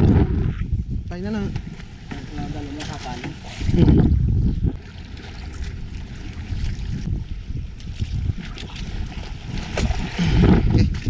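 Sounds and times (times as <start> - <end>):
water washing against boat: 0.0 - 11.0
wind buffeting microphone: 0.0 - 11.0.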